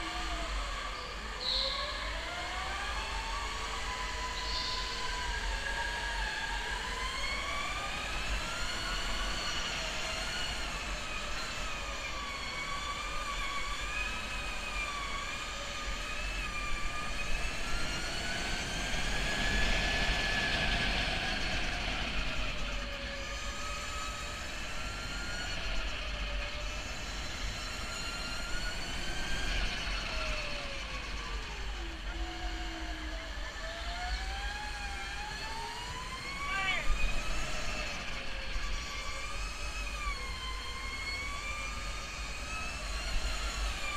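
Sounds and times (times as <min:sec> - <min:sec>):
electric go-kart motor whining: 0:00.0 - 0:43.9
low rumble of tyres and wind: 0:00.0 - 0:43.9.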